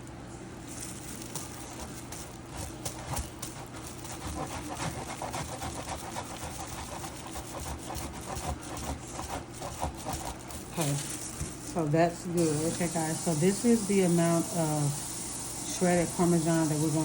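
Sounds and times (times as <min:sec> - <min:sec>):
cheese grating on grater: 0:00.7 - 0:17.0.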